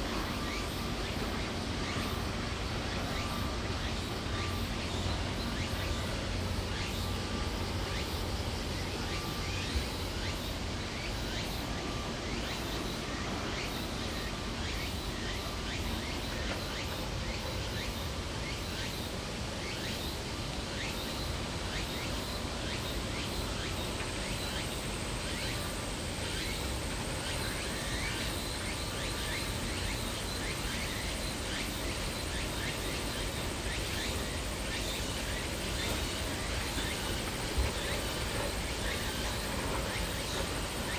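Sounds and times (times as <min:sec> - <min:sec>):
light hiss: 0:00.0 - 0:40.9.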